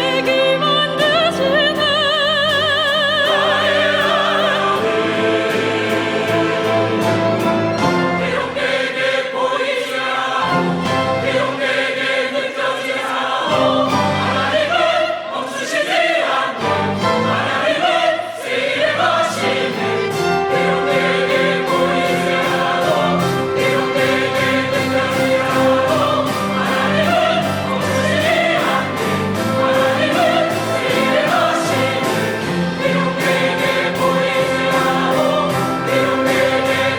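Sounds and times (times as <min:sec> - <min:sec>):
choir singing with accompaniment: 0:00.0 - 0:36.9.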